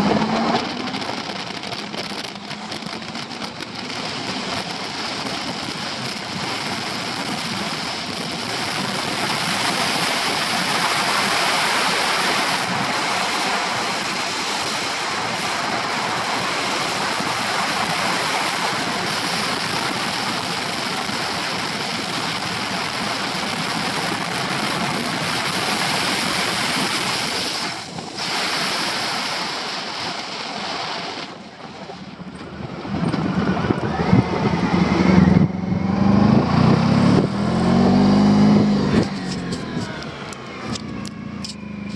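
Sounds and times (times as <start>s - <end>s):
motorcycle engine: 0.0s - 29.9s, 31.2s - 41.9s
wind rushing over microphone: 0.0s - 41.9s.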